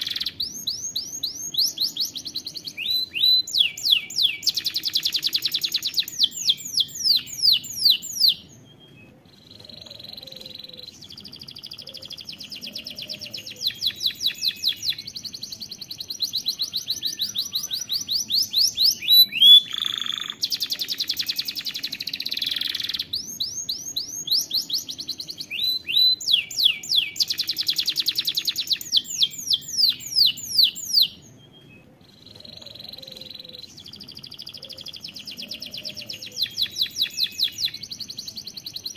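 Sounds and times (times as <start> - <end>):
canary singing rapid trills: 0.0 - 8.7, 9.3 - 31.5, 32.1 - 38.9.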